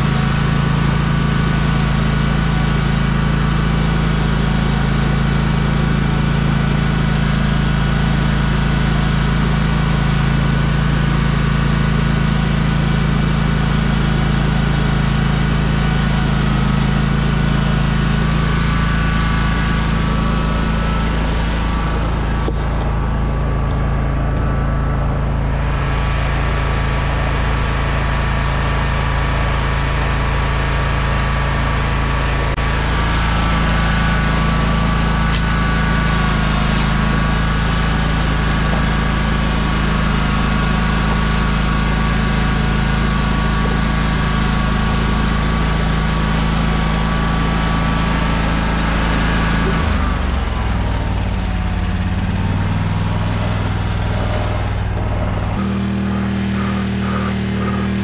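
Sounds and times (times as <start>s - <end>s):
lawn machine engine running: 0.0s - 58.0s.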